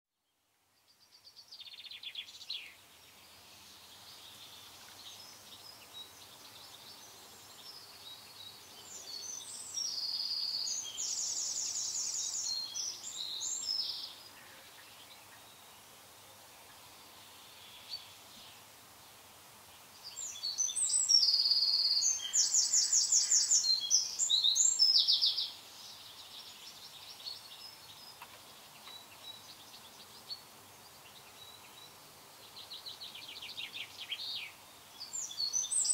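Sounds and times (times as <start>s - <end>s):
faint steady hiss: 0.1s - 35.9s.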